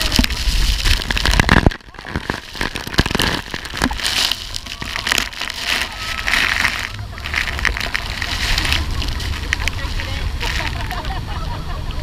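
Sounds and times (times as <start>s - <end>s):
water drops pelting microphone: 0.0s - 12.0s.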